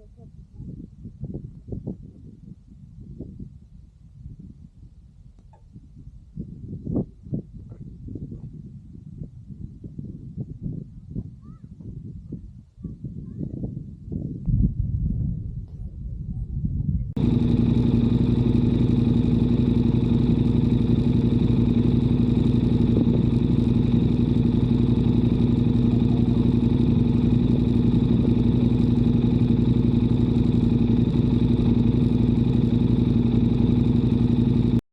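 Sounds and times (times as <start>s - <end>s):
low uneven rumble: 0.0s - 34.8s
motorcycle engine running: 0.0s - 34.8s.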